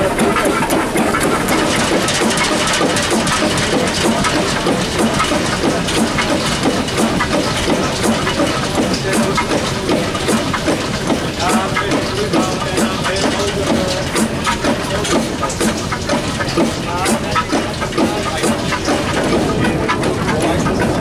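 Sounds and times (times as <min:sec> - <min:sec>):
engine clattering steadily: 0:00.0 - 0:21.0.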